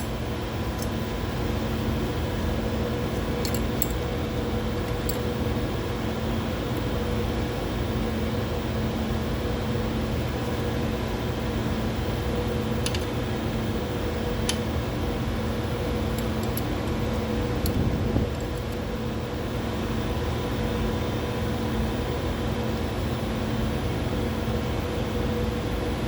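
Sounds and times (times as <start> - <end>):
fans and pumps humming: 0.0 - 26.0.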